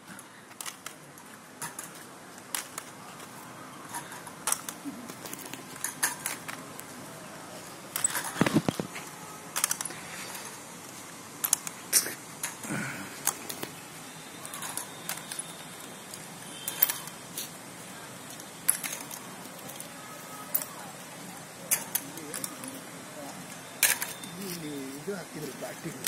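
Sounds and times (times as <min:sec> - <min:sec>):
walking frame clinking and rattling: 0:00.1 - 0:11.8, 0:14.4 - 0:26.0.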